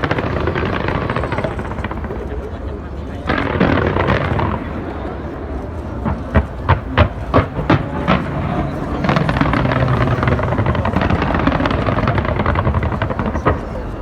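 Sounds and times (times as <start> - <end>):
fireworks bangs: 0.0 - 14.0
fireworks crackle: 0.0 - 14.0.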